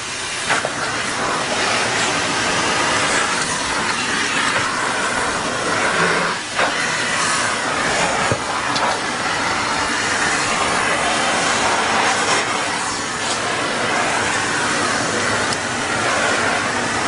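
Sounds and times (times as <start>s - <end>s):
rushing machine noise with hiss: 0.0s - 17.0s.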